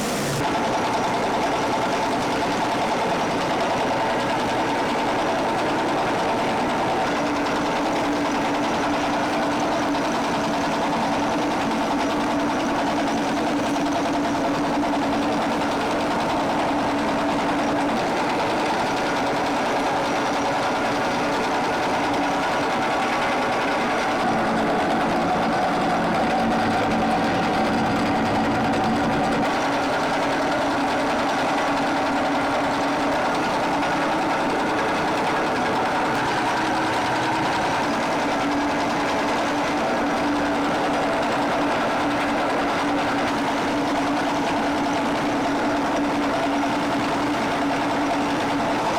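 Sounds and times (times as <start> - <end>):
machinery hum: 0.0 - 0.7, 8.9 - 48.9
factory machinery clatter: 0.0 - 48.9.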